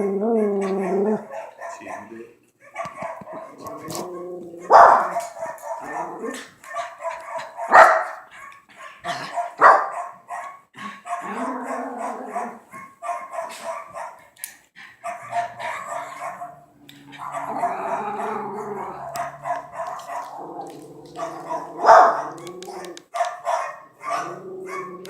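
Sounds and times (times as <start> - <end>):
dogs howling: 0.0 - 14.2, 15.0 - 25.0
dogs barking: 0.0 - 25.0.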